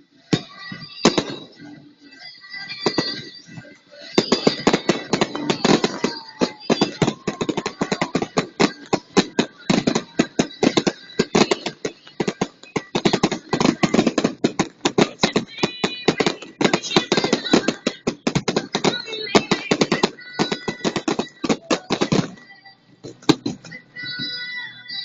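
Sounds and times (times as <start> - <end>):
fireworks bangs and crackling: 0.2 - 24.4.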